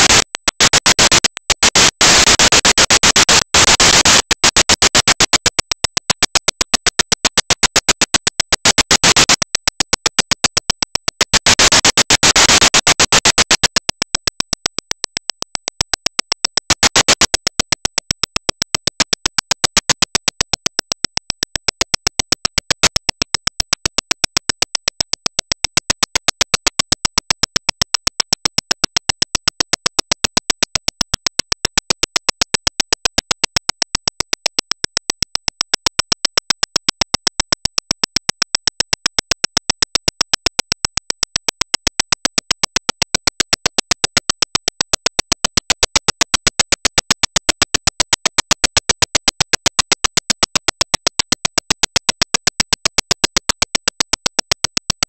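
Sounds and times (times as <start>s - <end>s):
rapid metallic ticking: 0.0s - 55.0s.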